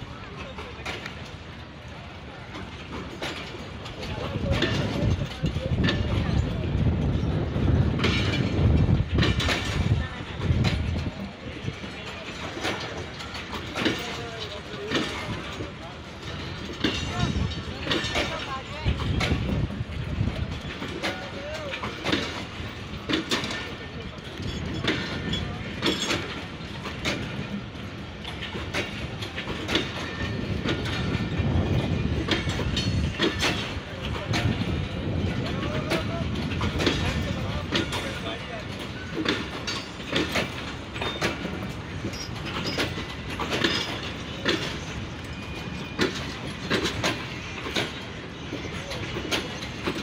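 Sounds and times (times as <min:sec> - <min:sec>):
low train rumble: 0:00.0 - 0:50.0
train wheels clacking over rail joints: 0:00.0 - 0:50.0.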